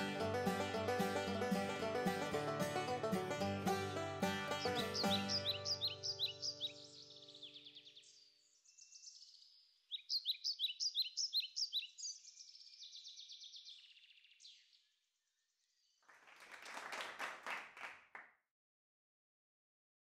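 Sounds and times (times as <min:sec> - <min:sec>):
songbird chirping: 0:00.0 - 0:16.1.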